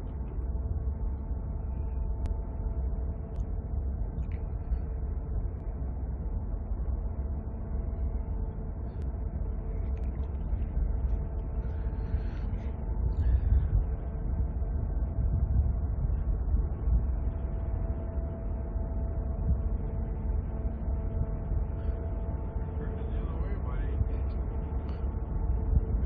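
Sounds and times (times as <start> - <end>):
faint droning hum: 0.0 - 26.0.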